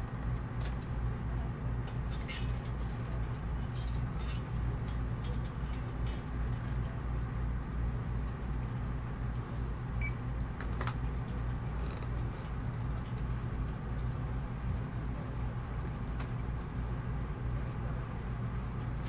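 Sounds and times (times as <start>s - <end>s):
low rumble and hiss: 0.0s - 19.0s.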